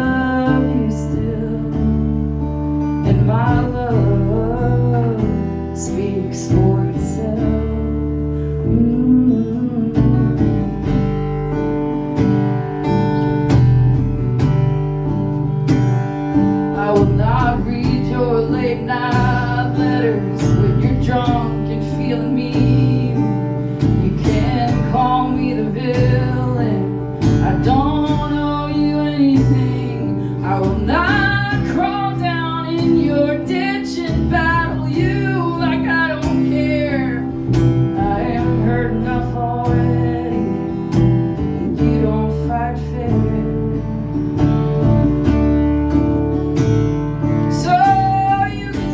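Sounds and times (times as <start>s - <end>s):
acoustic guitar strumming chords: 0.0s - 48.9s.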